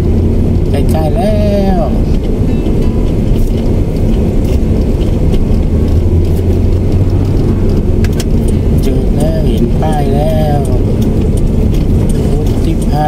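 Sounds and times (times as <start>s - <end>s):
car driving on paved road: 0.0s - 13.0s.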